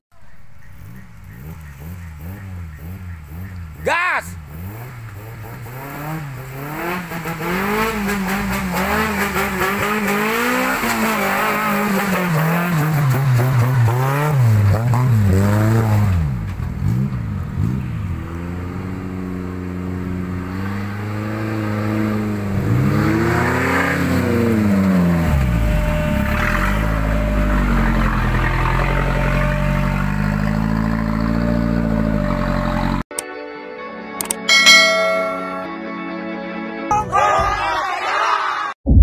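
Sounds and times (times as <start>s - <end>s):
engine revving: 0.6s - 33.1s.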